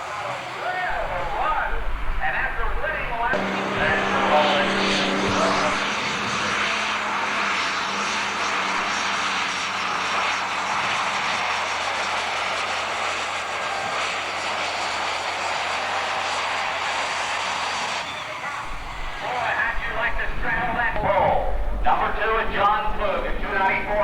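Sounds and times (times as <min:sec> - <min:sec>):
pulling tractor engine blaring: 0:00.4 - 0:14.9, 0:16.2 - 0:24.0.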